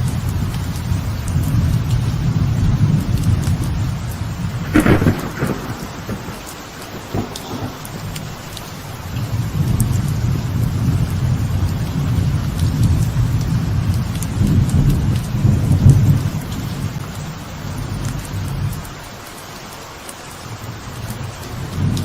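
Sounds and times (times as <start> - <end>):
thunder rumbling: 0.0 - 18.8, 20.5 - 22.0
light rain falling: 0.0 - 22.0.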